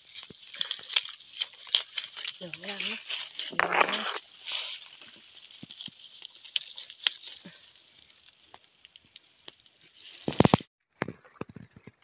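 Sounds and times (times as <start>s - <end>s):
leaves and twigs rustling: 0.0s - 12.0s.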